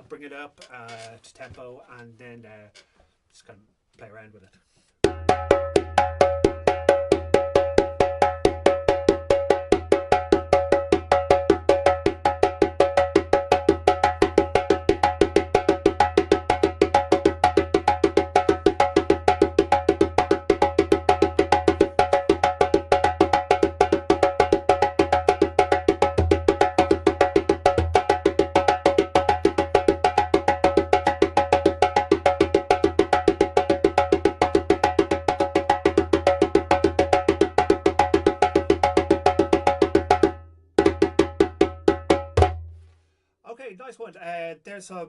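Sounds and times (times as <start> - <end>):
djembe played by hand: 5.0 - 42.7.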